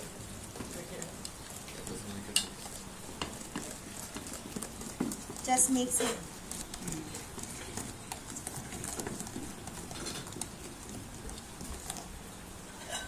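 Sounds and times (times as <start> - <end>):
hand mixing wet batter: 0.0 - 13.0.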